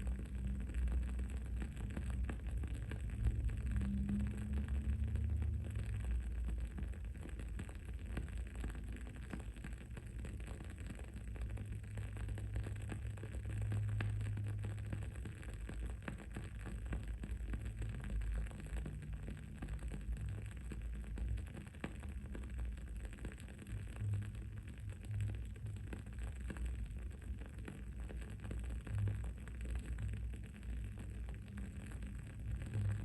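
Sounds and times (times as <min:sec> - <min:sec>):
candle crackling: 0:00.0 - 0:33.0
low background rumble: 0:00.0 - 0:33.0.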